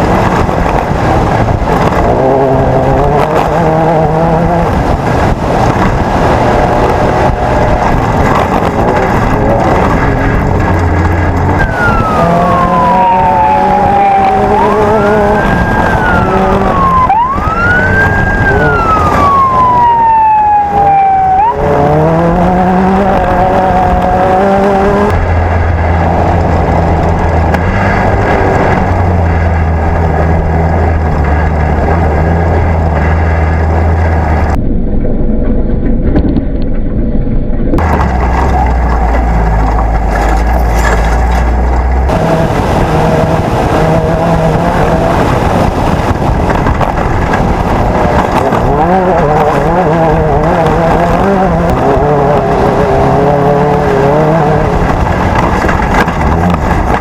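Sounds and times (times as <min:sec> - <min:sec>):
buggy engines revving: 0:00.0 - 0:34.6, 0:37.8 - 0:57.0.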